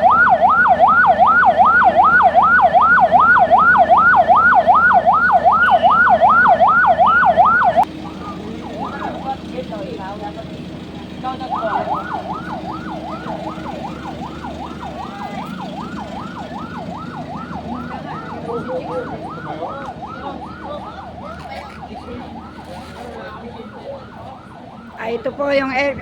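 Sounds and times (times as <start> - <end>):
electronic siren yelping: 0.0 - 9.3, 11.2 - 25.8.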